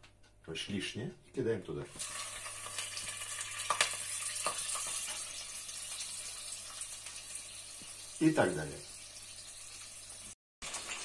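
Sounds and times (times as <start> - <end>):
prawn sizzling in hot oil: 1.9 - 11.0.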